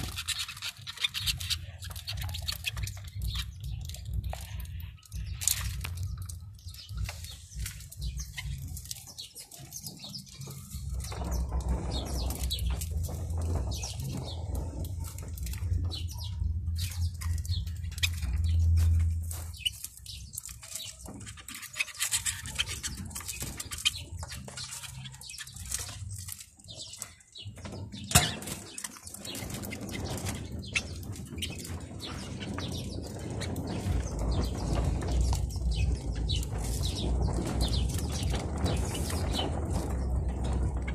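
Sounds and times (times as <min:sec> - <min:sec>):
canaries and finches chirping: 0:00.0 - 0:40.9
wings fluttering: 0:00.0 - 0:40.9
handheld microphone rumble: 0:01.2 - 0:40.9.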